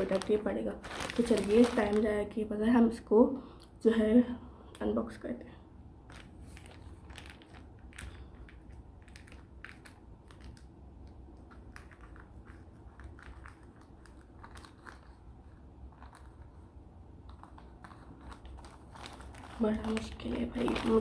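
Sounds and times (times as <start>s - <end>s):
wrapper crinkling: 0.0s - 2.4s, 6.0s - 21.0s.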